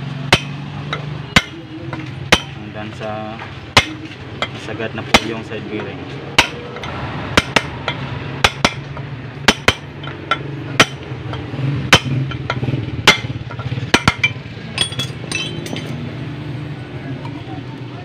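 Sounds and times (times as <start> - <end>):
hammer striking metal rod: 0.3 - 2.7, 3.7 - 15.9.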